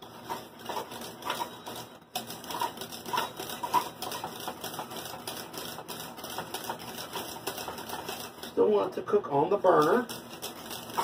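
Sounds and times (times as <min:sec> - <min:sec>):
whisk scraping metal pot: 0:00.0 - 0:11.0.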